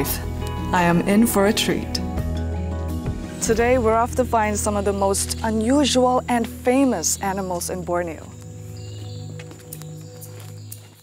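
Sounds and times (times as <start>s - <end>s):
sustained low music notes: 0.0s - 10.8s.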